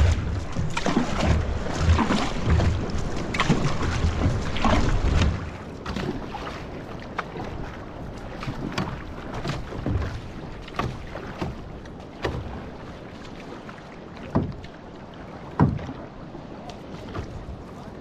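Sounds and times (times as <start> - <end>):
paddle strokes splashing: 0.0 - 18.0
water rushing: 0.0 - 18.0.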